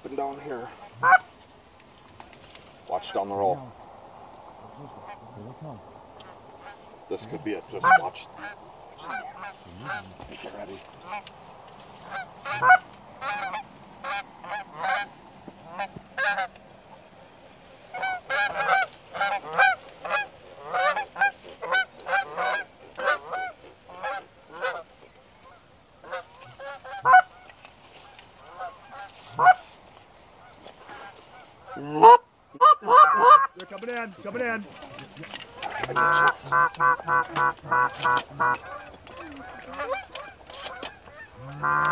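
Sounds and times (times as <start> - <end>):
geese honking: 0.1 - 1.4, 2.9 - 17.0, 17.8 - 41.9.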